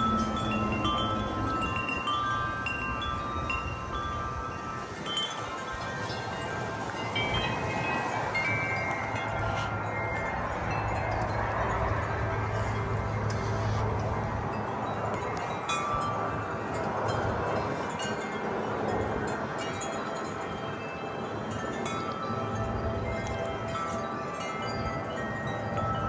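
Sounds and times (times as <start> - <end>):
wind chimes ringing: 0.0 - 26.0
wind rushing over microphone: 0.0 - 26.0.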